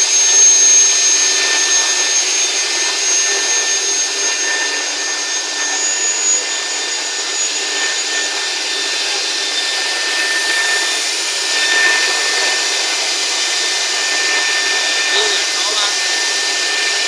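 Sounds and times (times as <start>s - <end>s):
router cutting wood: 0.0s - 17.0s
thin steady whine: 0.0s - 17.0s.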